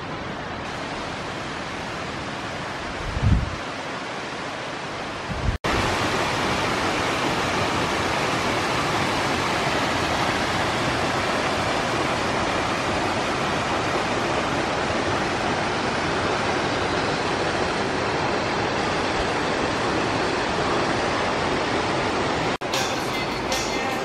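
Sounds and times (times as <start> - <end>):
mountain creek rushing over rocks: 0.0 - 24.0.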